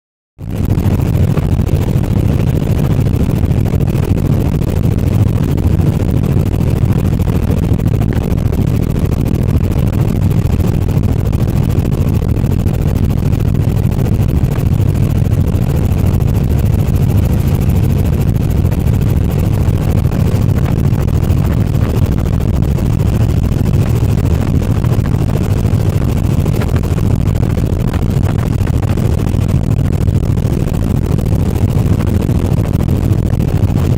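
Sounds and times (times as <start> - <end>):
helicopter low rumble: 0.4 - 33.9.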